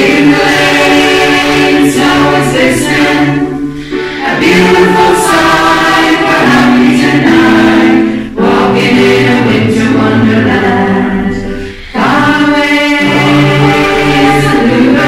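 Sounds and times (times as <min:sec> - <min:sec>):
electronic keyboard: 0:00.0 - 0:15.0
group singing a carol: 0:00.0 - 0:15.0.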